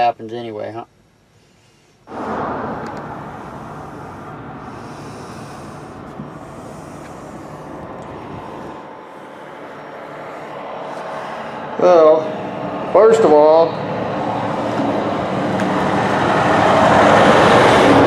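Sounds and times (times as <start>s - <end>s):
engine idling: 2.1s - 18.0s.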